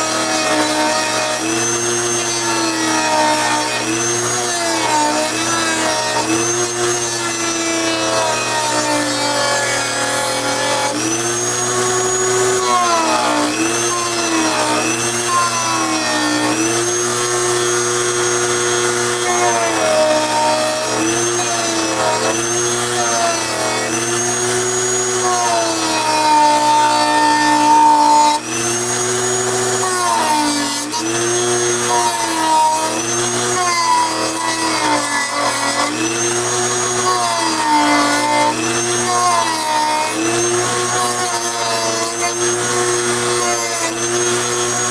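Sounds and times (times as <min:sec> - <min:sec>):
rotary tool grinding plastic: 0:00.0 - 0:44.9.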